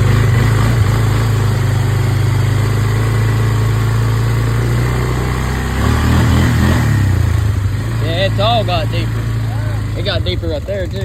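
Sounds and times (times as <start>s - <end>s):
small vehicle engine running: 0.0s - 11.0s.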